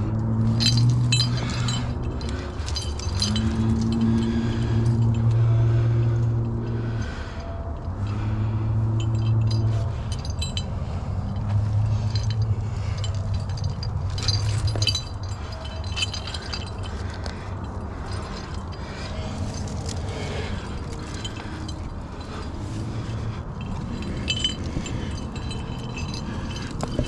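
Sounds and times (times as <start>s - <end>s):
carabiners jingling and clinking: 0.0s - 27.0s
low hum: 0.0s - 27.0s.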